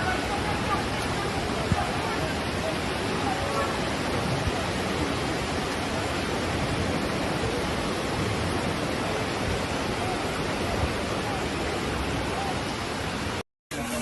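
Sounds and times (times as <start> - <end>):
storm water rushing: 0.0 - 14.0.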